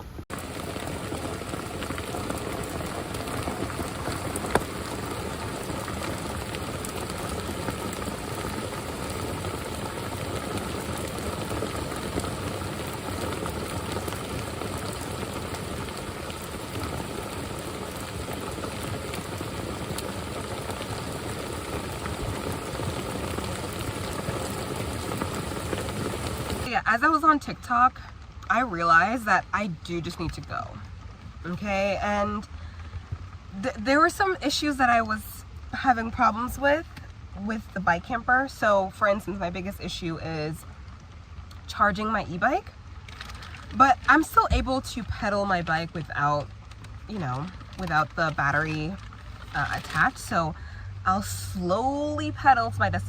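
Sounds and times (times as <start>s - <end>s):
steady rain falling: 0.1s - 53.0s.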